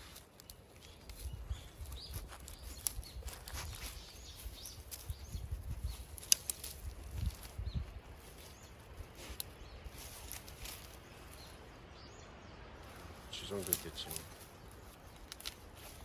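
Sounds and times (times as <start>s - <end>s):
twigs snapping: 0.0s - 11.6s, 12.8s - 16.0s
footsteps crunching through undergrowth: 0.0s - 11.8s, 12.7s - 16.0s.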